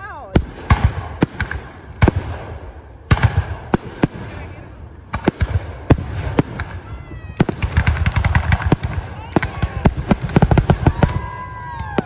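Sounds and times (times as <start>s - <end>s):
fireworks booming: 0.2s - 12.0s.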